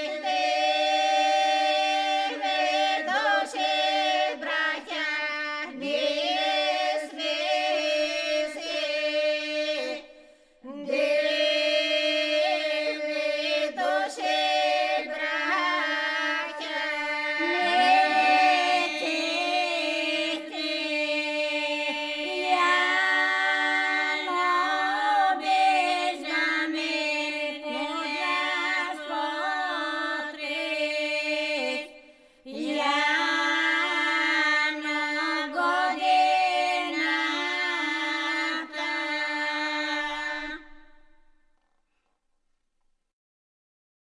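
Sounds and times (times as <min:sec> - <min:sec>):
group singing a cappella: 0:00.0 - 0:41.3.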